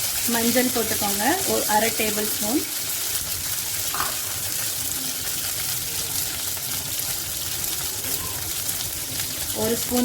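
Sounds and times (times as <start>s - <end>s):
liquid bubbling and sizzling in pan: 0.0s - 10.0s.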